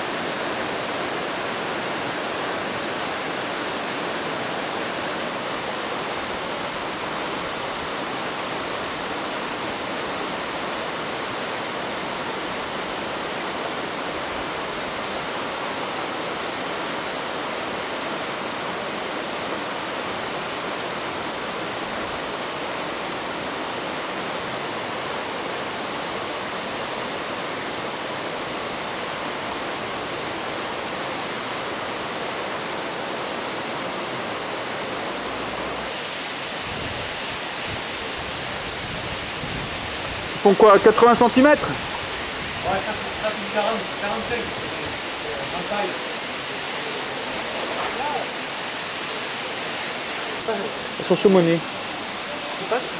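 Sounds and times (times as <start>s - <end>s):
fast-flowing water rushing: 0.0s - 52.9s.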